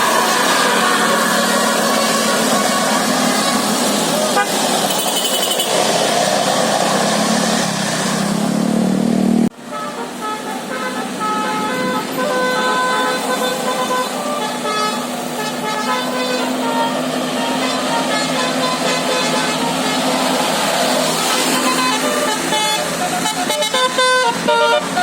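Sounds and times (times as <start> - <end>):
musical air horns: 0.0 - 8.4, 9.4 - 25.0
loud bus noise: 0.0 - 25.0.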